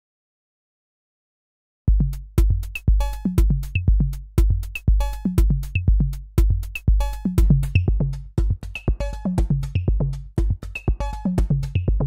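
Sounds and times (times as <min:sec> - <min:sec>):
drum machine kicks: 0:01.9 - 0:12.0.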